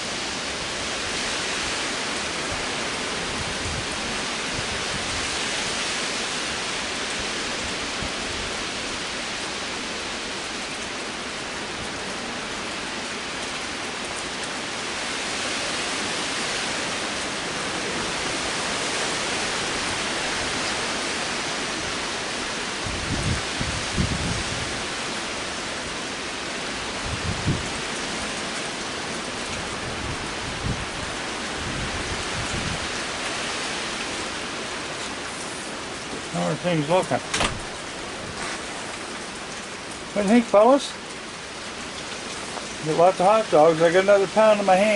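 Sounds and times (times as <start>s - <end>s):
heavy rain hiss: 0.0s - 44.9s
wind gusting on microphone: 0.0s - 44.9s.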